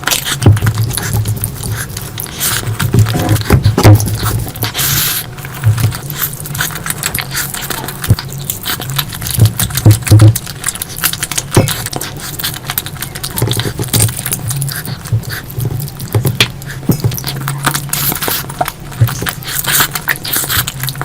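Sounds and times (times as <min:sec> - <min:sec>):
wet chewing and mouth smacks: 0:00.0 - 0:21.0.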